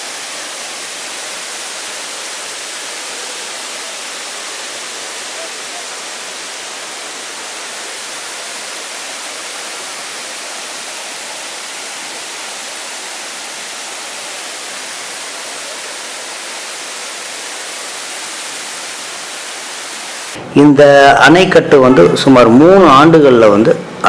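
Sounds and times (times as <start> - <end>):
water pouring over waterfall: 0.0 - 20.4.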